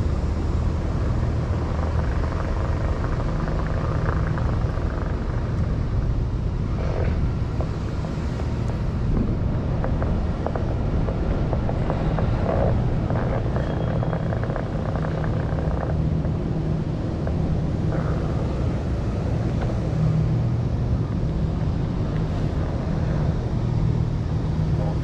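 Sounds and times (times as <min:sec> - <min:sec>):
electric board rumbling hum: 0:00.0 - 0:25.0.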